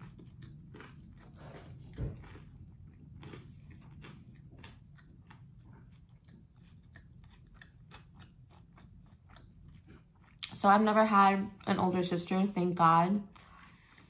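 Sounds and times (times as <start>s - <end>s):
chewing crisp bread: 0.0s - 10.9s, 13.2s - 14.0s.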